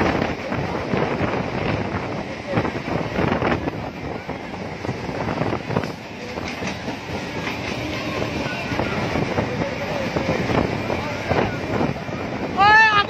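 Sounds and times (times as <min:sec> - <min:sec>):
train wheels clattering over rails: 0:00.0 - 0:12.6
train rumble: 0:00.0 - 0:13.0.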